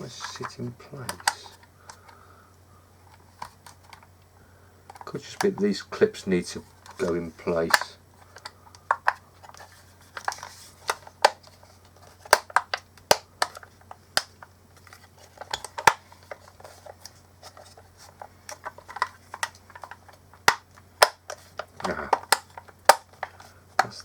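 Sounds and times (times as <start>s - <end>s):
plastic parts clicking and tapping: 0.2s - 2.2s, 3.1s - 4.1s, 4.9s - 5.7s, 6.8s - 24.0s.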